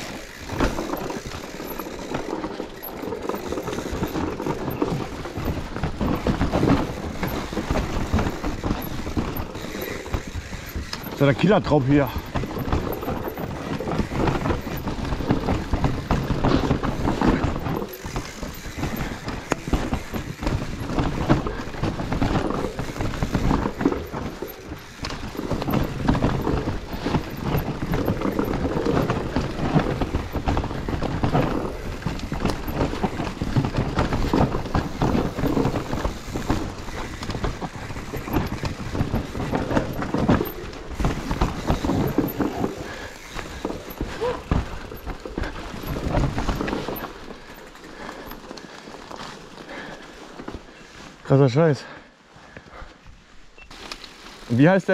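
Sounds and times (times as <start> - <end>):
mountain bike rattling over rough ground: 0.0 - 54.9.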